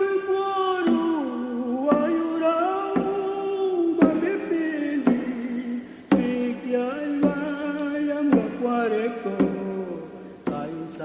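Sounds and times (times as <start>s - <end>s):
sharp percussive beat: 0.0s - 11.0s.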